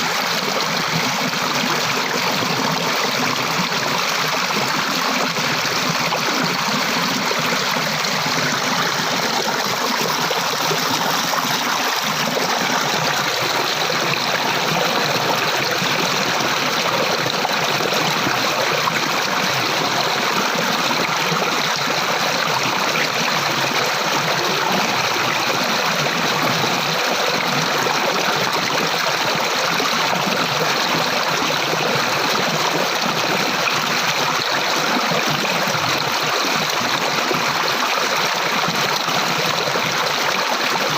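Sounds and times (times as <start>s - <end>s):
stream of flowing water: 0.0s - 40.9s.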